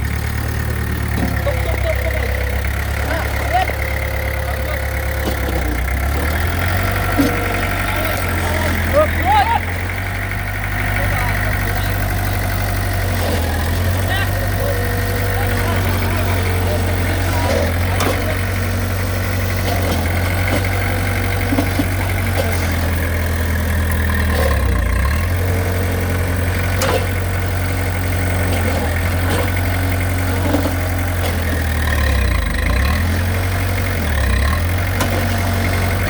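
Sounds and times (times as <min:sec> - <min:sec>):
heavy machine engine idling: 0:00.0 - 0:36.0.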